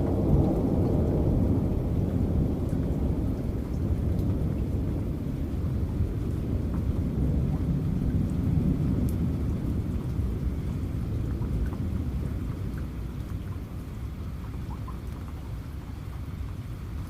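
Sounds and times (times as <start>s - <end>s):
thunder rumbling: 0.0s - 14.8s
rain falling: 0.0s - 17.0s
scattered drips: 2.6s - 17.0s.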